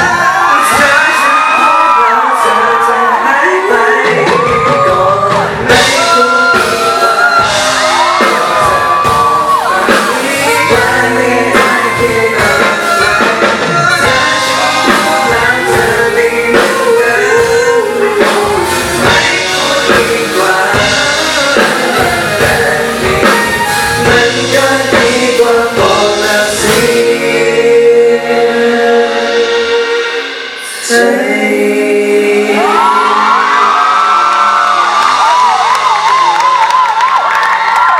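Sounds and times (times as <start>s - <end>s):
person singing: 0.0s - 36.8s
amplified band playing: 0.0s - 37.9s.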